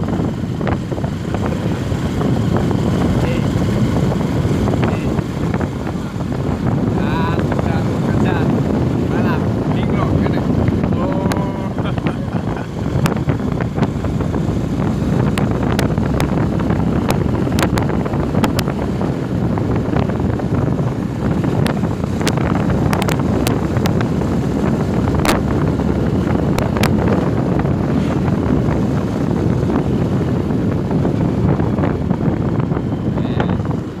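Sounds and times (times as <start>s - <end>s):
motorcycle engine and road noise: 0.0s - 34.0s
wind rushing over microphone: 0.0s - 34.0s.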